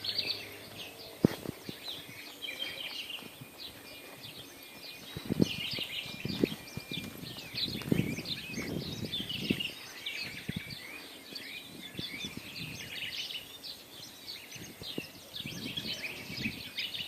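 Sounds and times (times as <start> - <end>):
small birds chirping chorus: 0.0 - 17.0.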